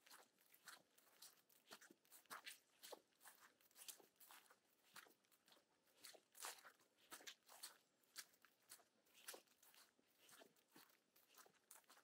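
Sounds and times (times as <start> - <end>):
footsteps crunching on path: 0.0 - 12.0.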